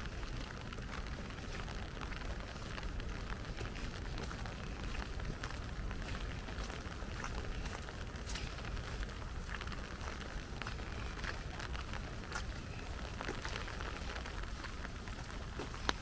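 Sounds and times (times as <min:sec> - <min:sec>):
raindrops ticking: 0:00.0 - 0:16.0.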